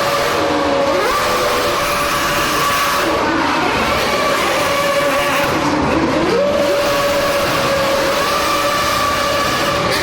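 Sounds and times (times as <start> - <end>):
racing car engine high-pitched whine: 0.0 - 10.0.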